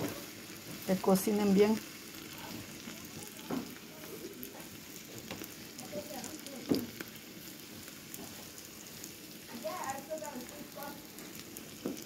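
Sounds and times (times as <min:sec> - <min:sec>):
potatoes sizzling in covered pan: 0:00.0 - 0:12.0.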